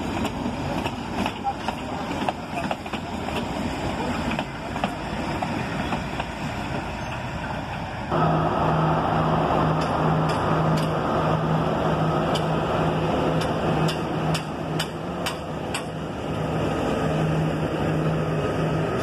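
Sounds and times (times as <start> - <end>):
diesel locomotive idling: 0.0 - 19.0.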